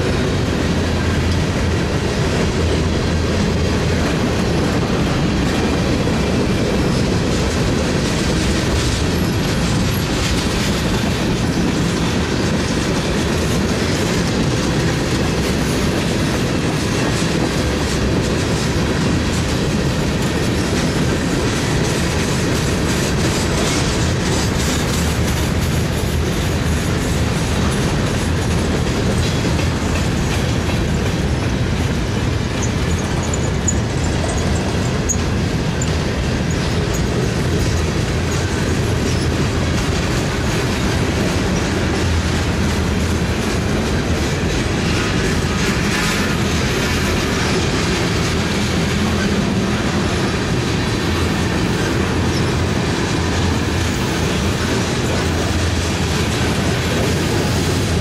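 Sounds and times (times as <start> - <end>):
freight cars rolling on rails: 0.0 - 58.0.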